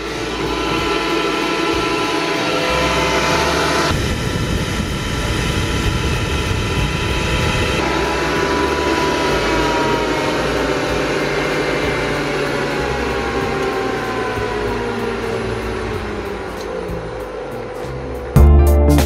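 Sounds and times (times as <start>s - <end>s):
electric motor whine: 0.0s - 18.3s.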